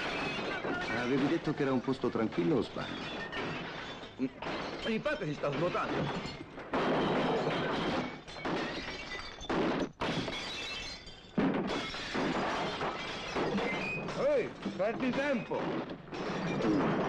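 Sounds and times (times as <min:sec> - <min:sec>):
glass and crockery smashing: 0:00.0 - 0:17.0.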